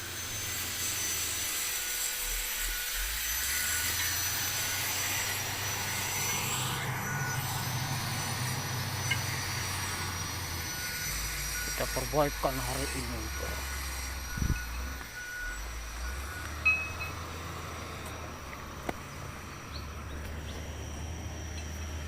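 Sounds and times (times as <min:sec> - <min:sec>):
diesel engine running: 0:00.0 - 0:01.5, 0:02.2 - 0:22.0.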